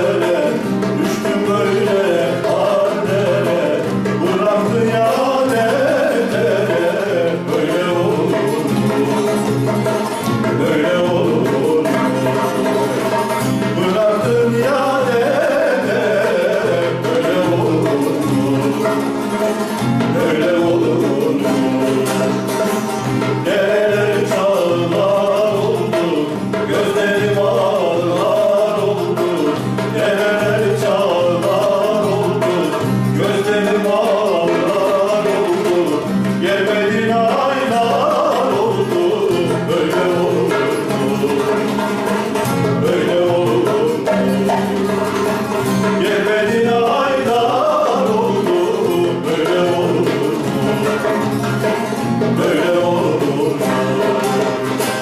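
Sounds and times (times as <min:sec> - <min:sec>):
guitar: 0:00.0 - 0:55.0
hand drum beat: 0:00.0 - 0:55.0
man singing folk song: 0:00.0 - 0:55.0
plucked lute: 0:00.0 - 0:55.0.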